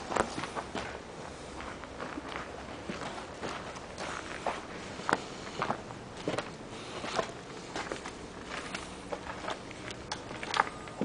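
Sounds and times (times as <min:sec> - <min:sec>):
footsteps on gritty concrete: 0:00.0 - 0:11.0.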